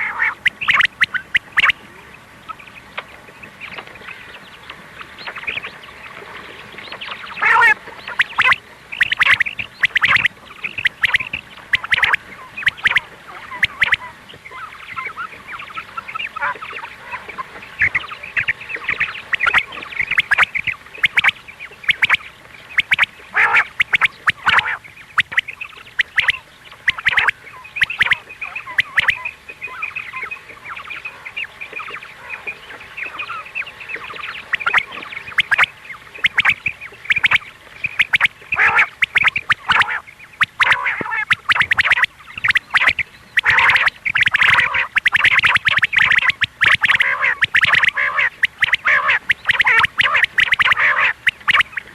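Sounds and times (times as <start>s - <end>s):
quail calls: 0.0s - 51.9s.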